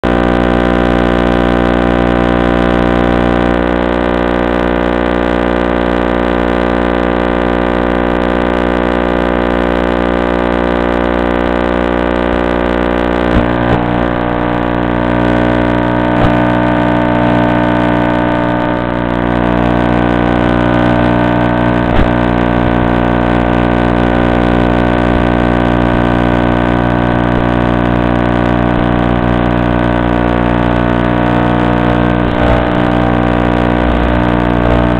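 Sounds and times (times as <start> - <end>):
loud electrical buzz: 0.0 - 34.9.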